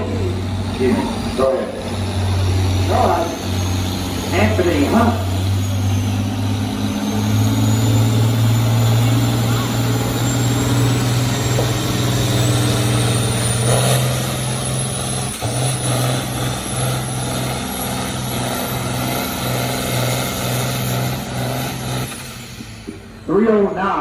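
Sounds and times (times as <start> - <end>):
tractor engine pulling under load: 0.0 - 24.0.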